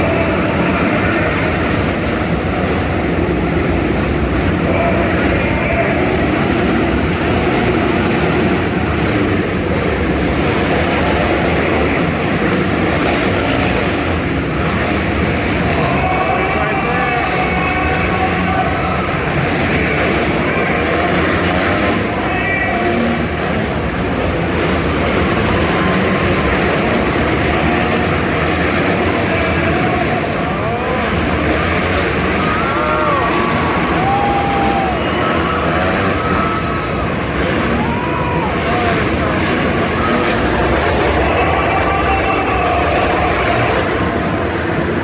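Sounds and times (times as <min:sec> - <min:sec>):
dirt bike engines racing: 0:00.0 - 0:45.0.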